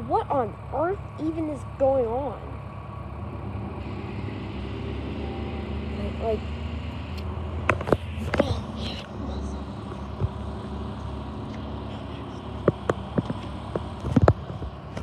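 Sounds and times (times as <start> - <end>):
garbage truck engine humming: 0.0 - 15.0.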